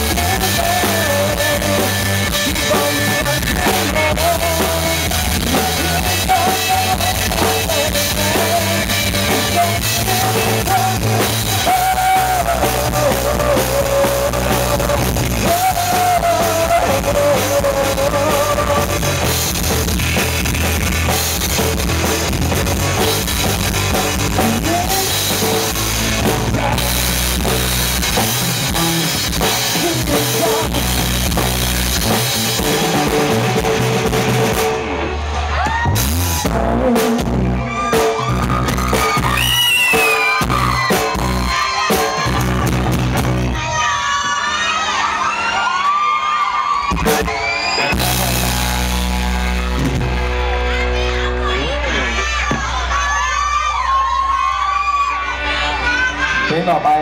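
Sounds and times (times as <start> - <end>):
drum kit: 0.0 - 43.8, 46.8 - 51.6
bass guitar: 0.0 - 45.9, 46.5 - 57.0
guitars: 0.0 - 45.9, 46.5 - 57.0.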